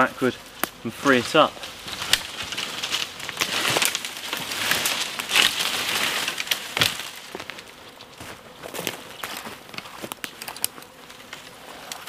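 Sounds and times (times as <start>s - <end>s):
leaves rustling: 0.0s - 12.0s
twigs crackling: 0.0s - 12.0s
branch snapping: 0.5s - 8.2s, 8.8s - 12.0s.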